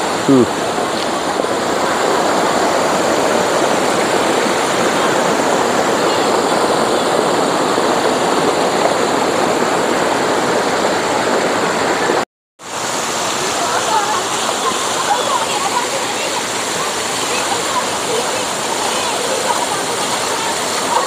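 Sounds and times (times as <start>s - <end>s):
waterfall rushing over rock: 0.0s - 21.0s.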